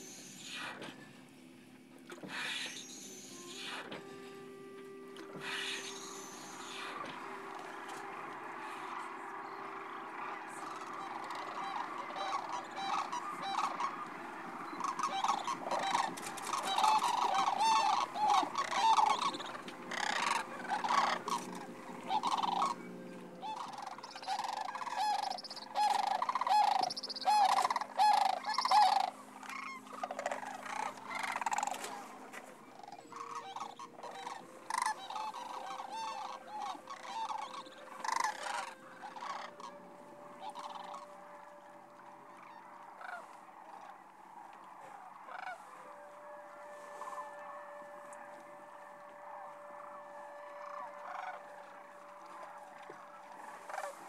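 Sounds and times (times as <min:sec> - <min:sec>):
cranes calling: 0:00.0 - 0:54.0.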